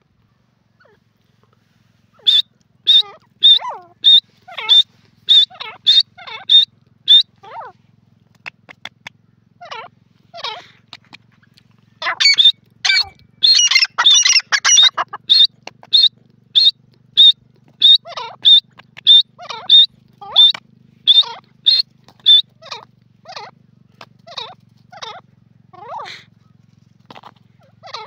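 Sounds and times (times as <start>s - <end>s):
bird calling shrilly: 0.7s - 1.1s, 2.1s - 7.8s, 8.4s - 28.0s.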